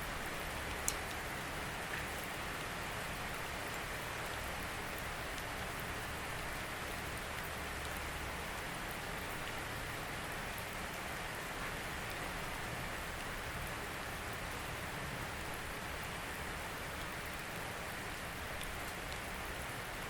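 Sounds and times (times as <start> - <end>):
steady rain falling: 0.0 - 20.0
faint raindrop ticks: 0.4 - 13.8, 16.9 - 20.0.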